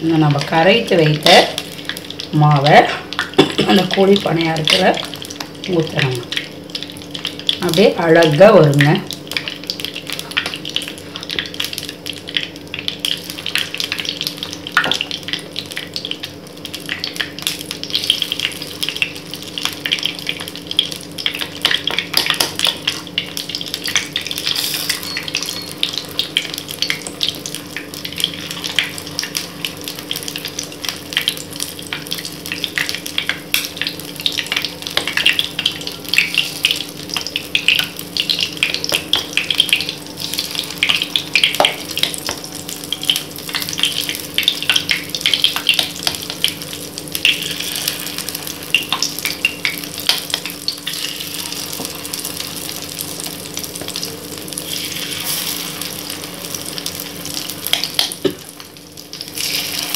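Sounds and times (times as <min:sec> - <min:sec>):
hot oil sizzling: 0:00.0 - 0:59.9.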